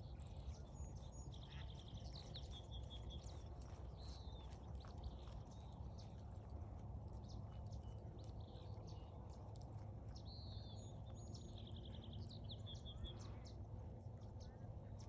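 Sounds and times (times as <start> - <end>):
small birds chirping: 0.0 - 13.6
low outdoor rumble: 0.0 - 15.0.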